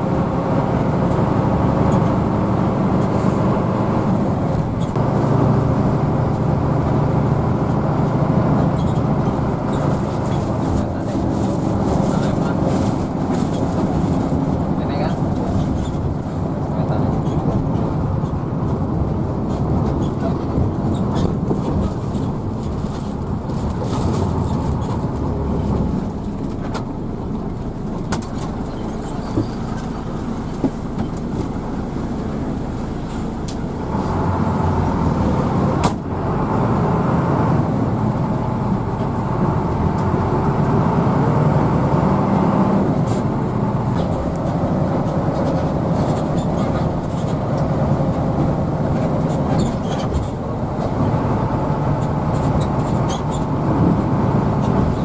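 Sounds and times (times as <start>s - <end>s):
bus engine: 0.0s - 55.0s
road noise inside bus: 0.0s - 55.0s.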